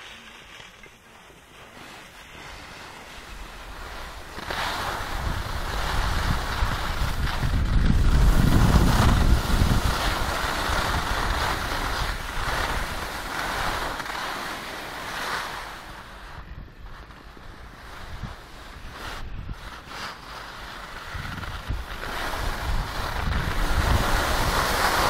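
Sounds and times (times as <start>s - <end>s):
skis scraping on packed snow: 0.0s - 25.0s
wind rushing over microphone: 3.2s - 25.0s.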